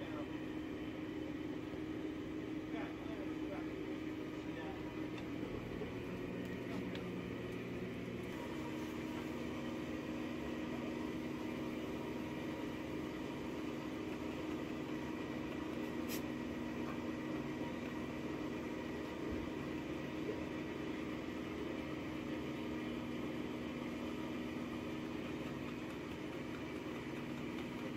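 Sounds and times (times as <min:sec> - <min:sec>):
machine humming: 0:00.0 - 0:27.9.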